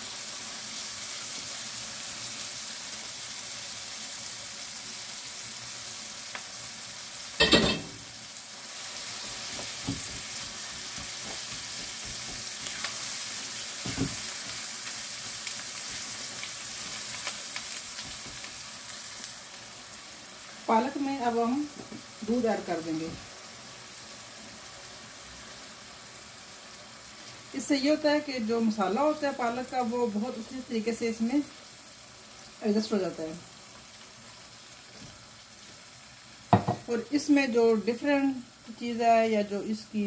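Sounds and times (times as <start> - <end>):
spinach sizzling in a pan: 0.0 - 40.0.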